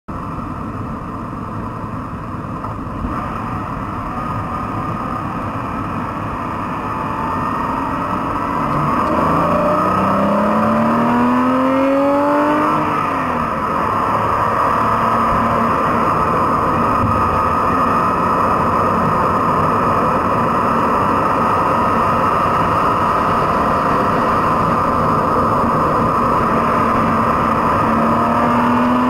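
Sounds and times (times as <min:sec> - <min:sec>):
road noise: 0:00.1 - 0:29.0
muffled car engine accelerating: 0:00.2 - 0:29.0.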